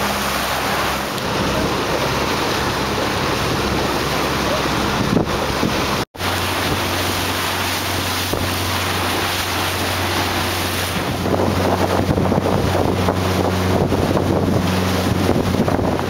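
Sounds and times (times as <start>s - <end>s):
motor boat engine hum: 0.0s - 16.0s
water rushing past hull: 0.0s - 16.0s
wind buffeting microphone: 0.0s - 16.0s.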